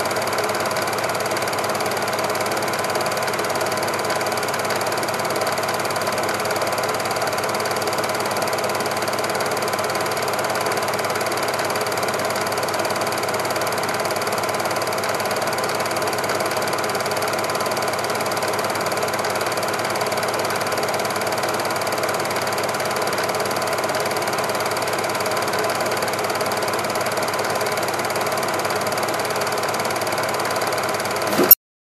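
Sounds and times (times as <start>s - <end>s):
film projector whirring: 0.0s - 31.6s.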